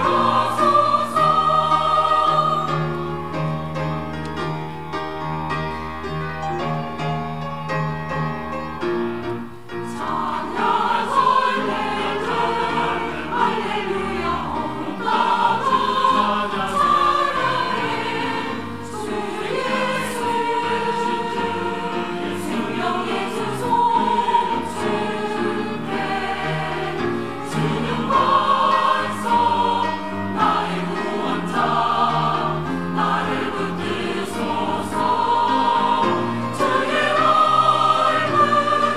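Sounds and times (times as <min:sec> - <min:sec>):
church choir singing: 0:00.0 - 0:05.6, 0:09.7 - 0:38.9
instrumental accompaniment: 0:00.0 - 0:38.9.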